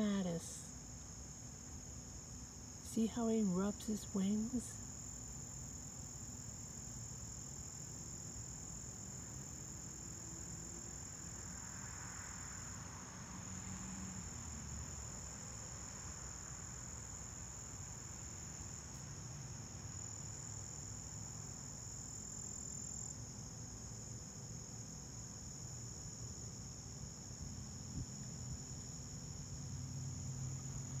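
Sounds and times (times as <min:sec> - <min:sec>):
crickets and insects chirping: 0:00.0 - 0:31.0.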